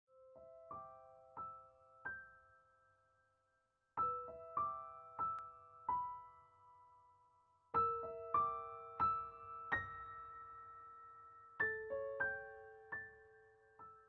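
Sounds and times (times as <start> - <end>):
solo piano melody: 0.1 - 3.3, 4.0 - 14.0.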